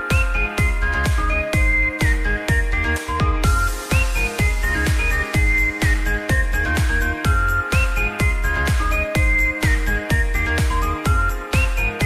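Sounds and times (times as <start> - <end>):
electronic music with synth melody: 0.0 - 12.0.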